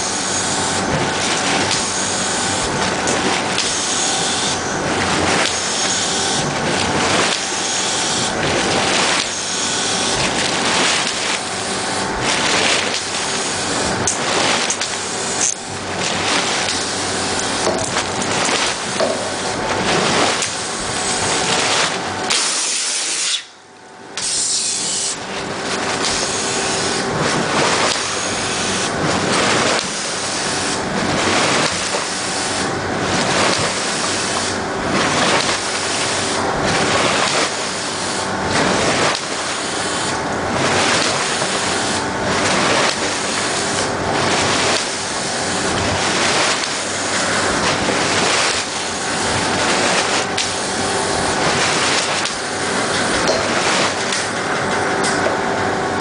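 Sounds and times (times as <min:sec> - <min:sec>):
grape must churning and splashing: 0:00.0 - 0:56.0
compressed air bursting through liquid: 0:00.1 - 0:23.3, 0:24.2 - 0:54.4.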